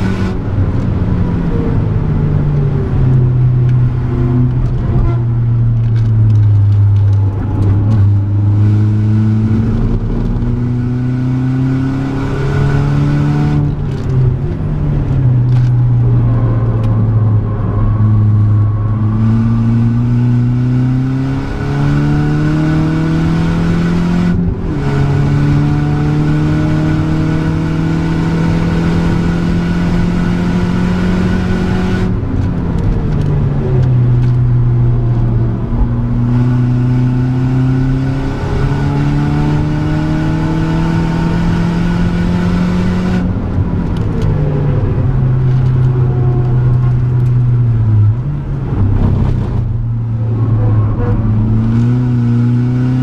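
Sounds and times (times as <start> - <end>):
car engine accelerating hard: 0.0 - 53.0.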